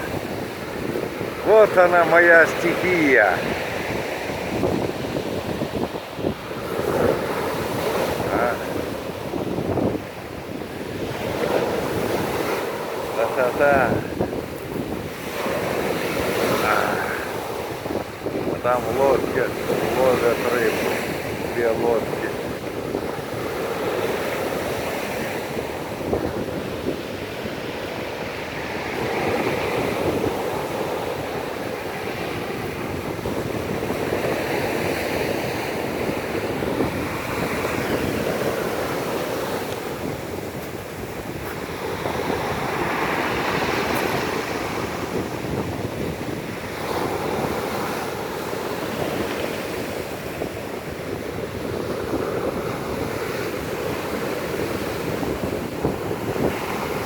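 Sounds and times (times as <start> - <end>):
waves breaking on shore: 0.0 - 57.0
wind buffeting microphone: 0.0 - 57.0.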